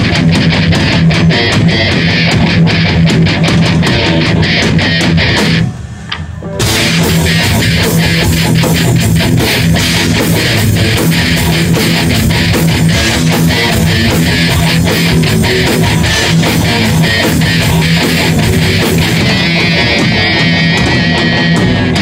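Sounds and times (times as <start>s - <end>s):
heavy metal band playing live: 0.0s - 22.0s.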